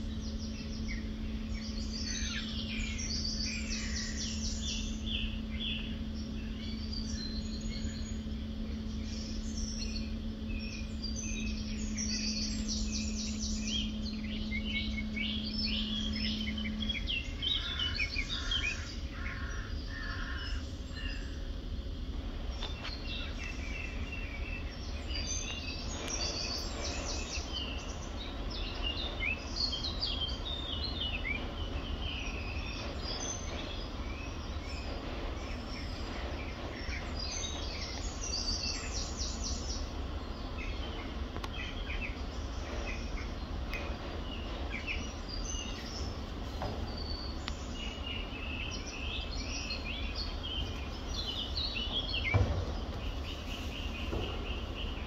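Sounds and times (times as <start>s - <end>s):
low background rumble: 0.0s - 55.0s
small birds chirping: 0.0s - 55.0s.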